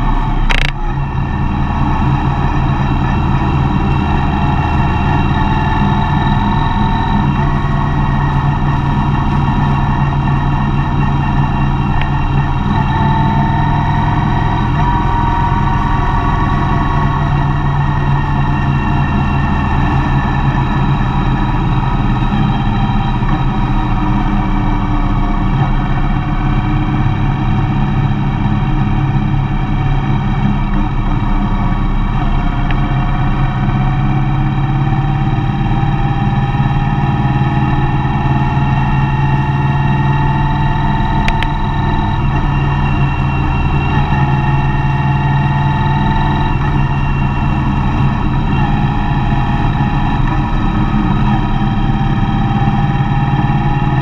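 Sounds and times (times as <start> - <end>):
faint whine: 0.0 - 54.0
road and tyre noise: 0.0 - 54.0
vehicle engine running: 0.0 - 54.0.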